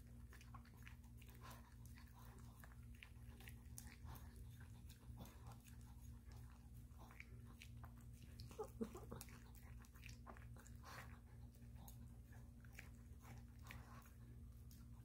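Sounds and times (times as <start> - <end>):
puppy lapping and chewing: 0.0 - 15.0.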